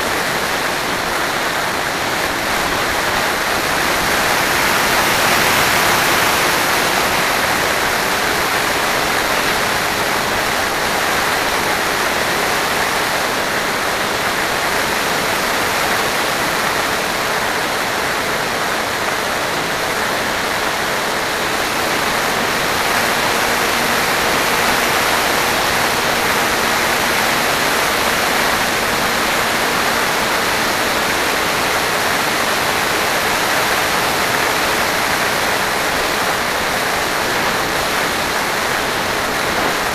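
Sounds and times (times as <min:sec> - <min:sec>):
airflow and propeller noise: 0:00.0 - 0:39.9.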